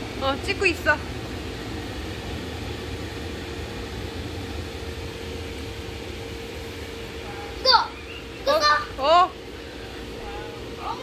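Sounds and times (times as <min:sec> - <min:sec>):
electric blower fan whirring: 0:00.0 - 0:11.0.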